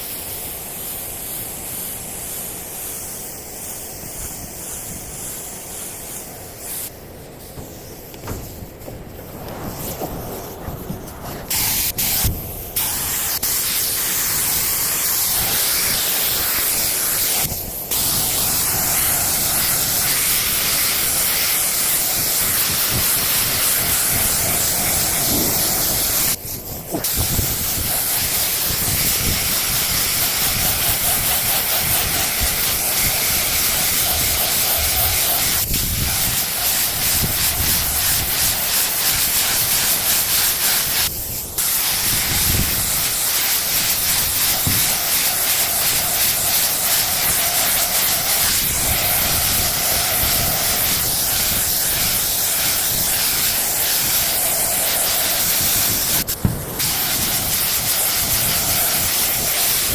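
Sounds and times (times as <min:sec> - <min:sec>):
paint spray gun hissing: 0:00.0 - 0:59.9.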